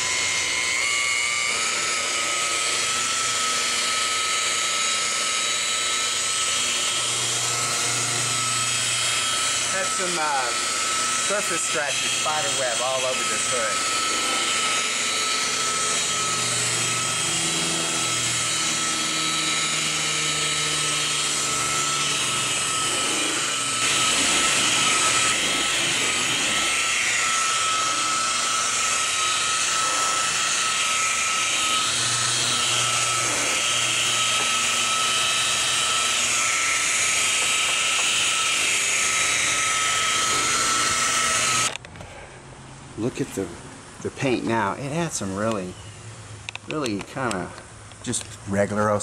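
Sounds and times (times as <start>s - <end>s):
rotary polisher whining: 0.0s - 49.0s.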